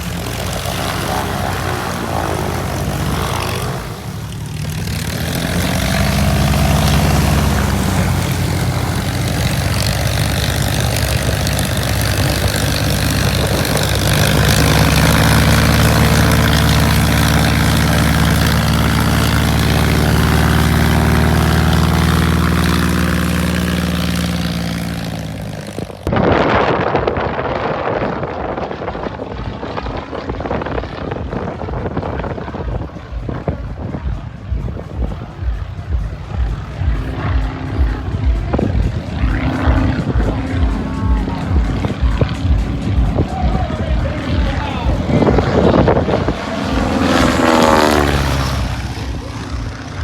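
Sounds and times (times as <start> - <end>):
propeller aircraft flying past: 0.0 - 50.0
wind: 0.0 - 50.0.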